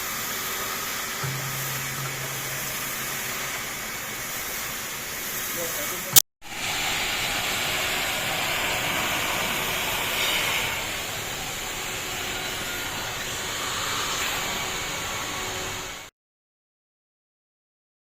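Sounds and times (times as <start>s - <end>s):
industrial vacuum cleaner running: 0.0s - 16.1s.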